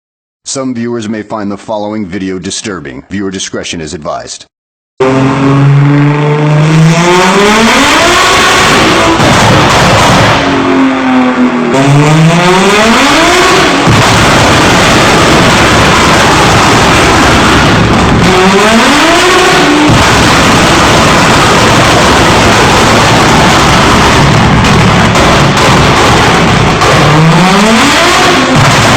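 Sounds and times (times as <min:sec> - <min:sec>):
loud car engine revving: 0:05.0 - 0:28.9.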